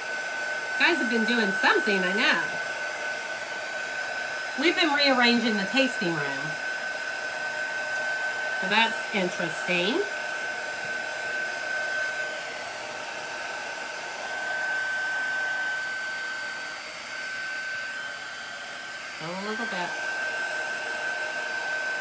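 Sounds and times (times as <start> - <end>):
heat tool blowing with high whine: 0.0 - 22.0.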